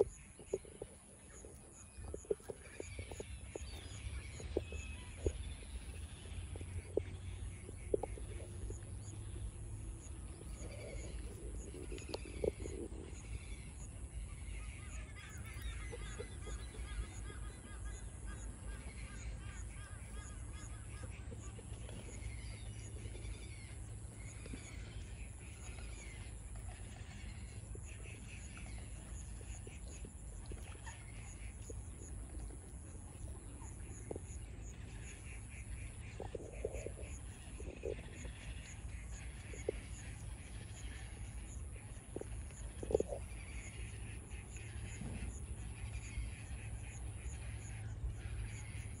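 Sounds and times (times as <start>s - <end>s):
waterbirds chattering calls: 0.0s - 49.0s.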